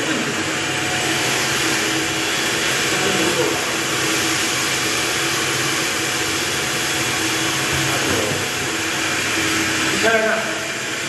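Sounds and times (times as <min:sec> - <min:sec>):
pump motor hum: 0:00.0 - 0:11.0.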